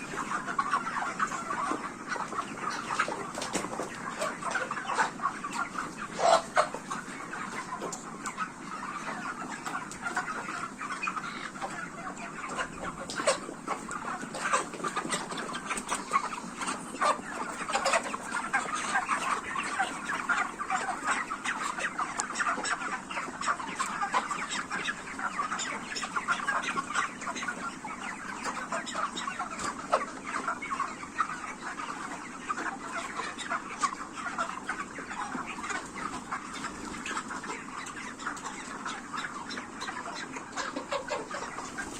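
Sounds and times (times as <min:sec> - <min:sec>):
chickens clucking: 0:00.0 - 0:41.9.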